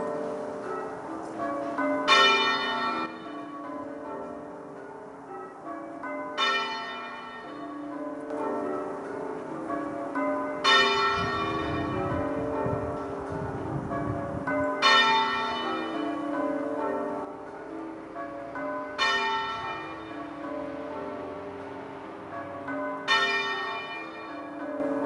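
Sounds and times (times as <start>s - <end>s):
muffled church bell tolling: 0.0s - 25.0s.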